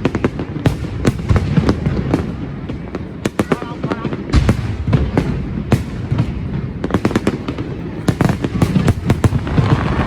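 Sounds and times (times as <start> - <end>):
fireworks cracks and bangs: 0.0 - 10.0
fireworks deep boom: 0.0 - 10.0.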